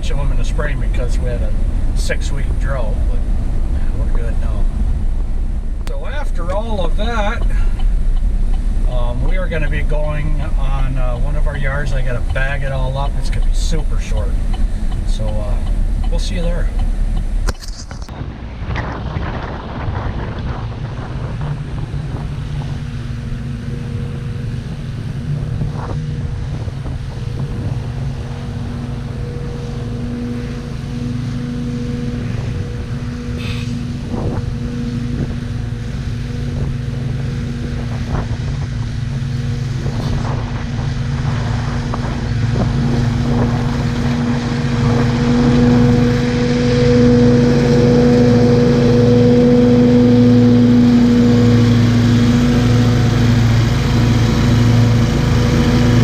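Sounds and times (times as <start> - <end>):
engine running with low rumble: 0.0 - 56.0.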